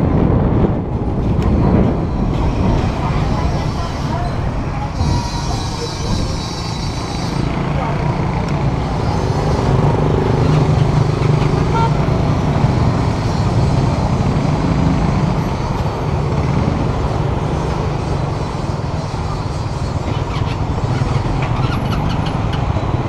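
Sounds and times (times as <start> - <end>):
street noise: 0.0 - 23.0.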